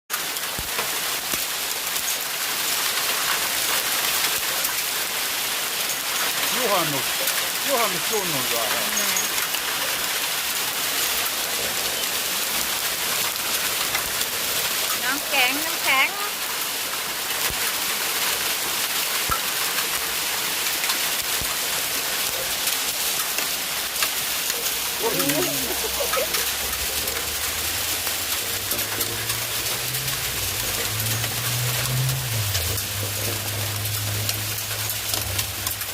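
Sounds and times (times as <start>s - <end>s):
hail and rain pelting down: 0.1s - 35.9s
hailstones hitting: 0.1s - 35.9s.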